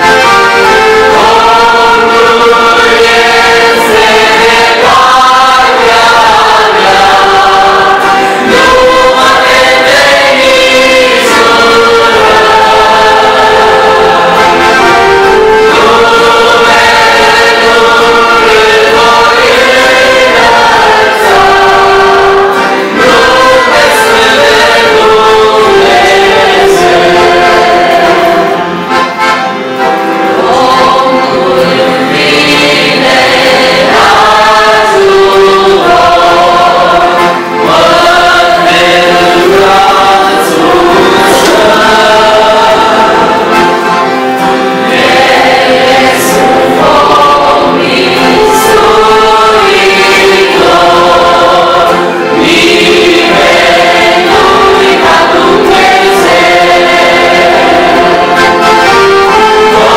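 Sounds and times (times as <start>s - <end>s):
accordion: 0.0s - 59.9s
acoustic guitar: 0.0s - 59.9s
group singing a hymn: 0.0s - 59.9s.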